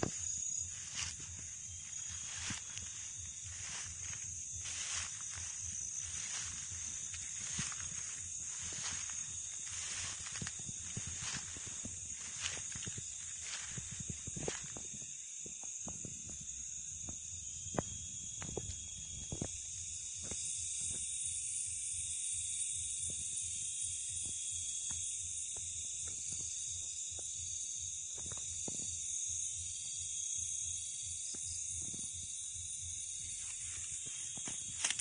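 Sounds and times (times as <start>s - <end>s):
night insects chirping: 0.0s - 35.0s.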